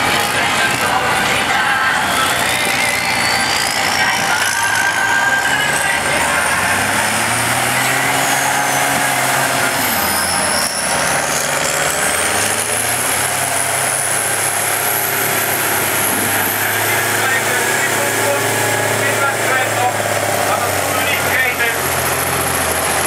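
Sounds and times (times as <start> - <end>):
tractor diesel engines under load: 0.0 - 23.0.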